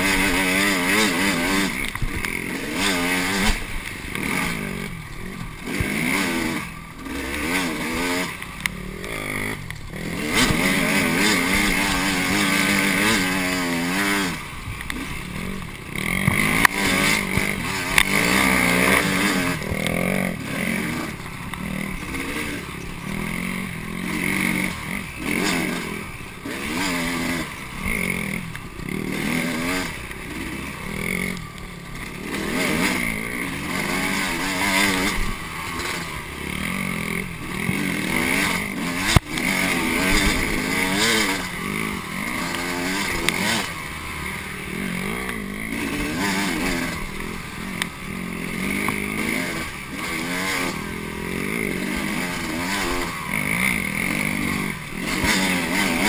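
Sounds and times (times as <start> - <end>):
two-stroke dirt bike engine revving: 0.0 - 56.0.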